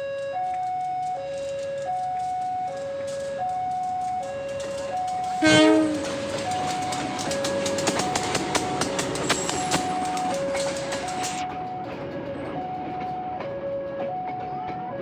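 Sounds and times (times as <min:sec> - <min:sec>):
train rumble: 0:00.2 - 0:15.0
train wheels clacking over rail joints: 0:00.8 - 0:14.9.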